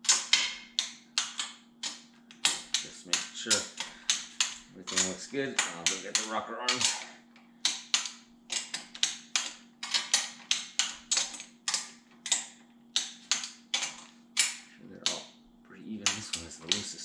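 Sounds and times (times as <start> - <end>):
hand ratchet clicking: 0.0 - 15.3, 16.0 - 17.0.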